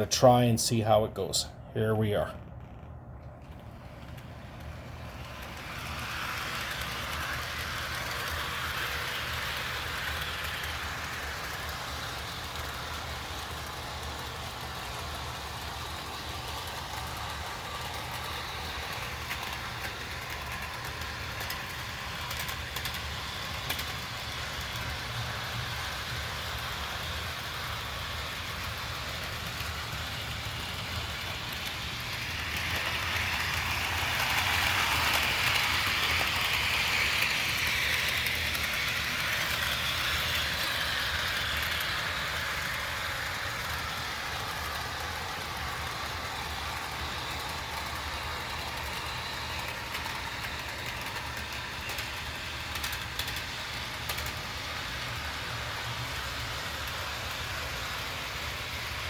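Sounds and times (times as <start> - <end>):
model train wheels rolling: 0.0 - 59.0
wheels clicking over track joints: 2.0 - 59.0.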